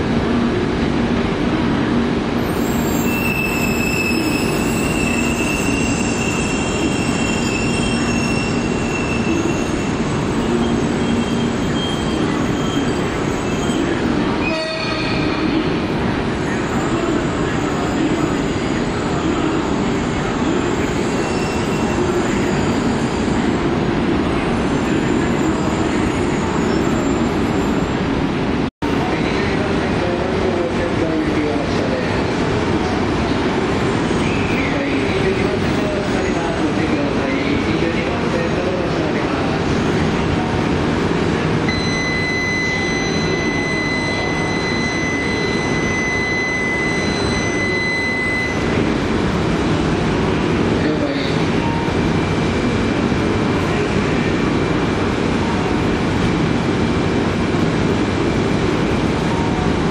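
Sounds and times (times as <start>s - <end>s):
trains rumbling low: 0.0s - 59.9s.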